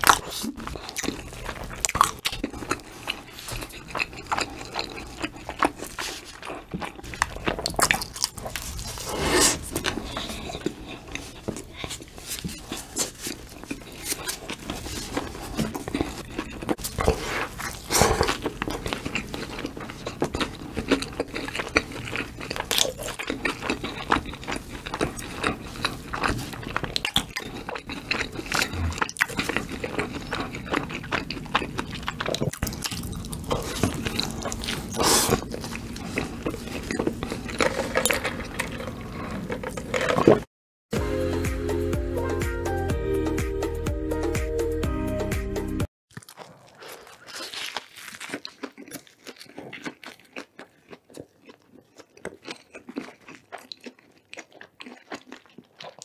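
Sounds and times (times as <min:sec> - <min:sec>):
person chewing with mouth open: 0:00.0 - 0:40.5, 0:46.1 - 0:56.0.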